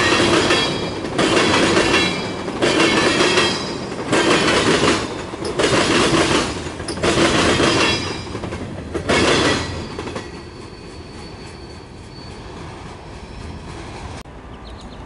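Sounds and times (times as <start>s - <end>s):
train wheels rumbling on rails: 0.0s - 14.5s.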